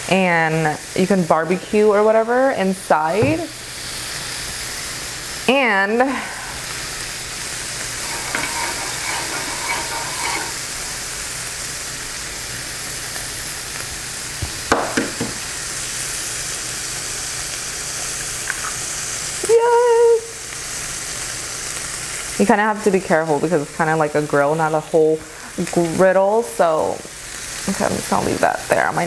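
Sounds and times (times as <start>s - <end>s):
meat sizzling on a grill: 0.0s - 29.0s.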